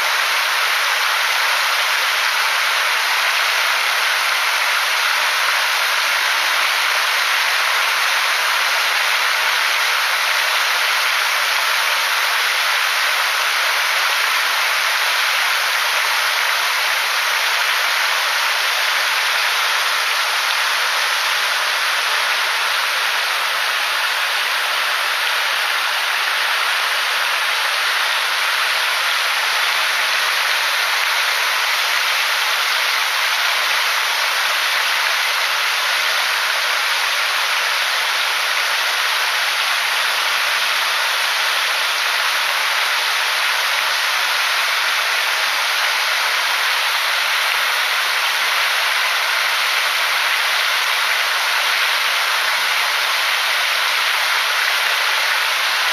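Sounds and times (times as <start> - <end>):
water rushing over weir: 0.0 - 55.9.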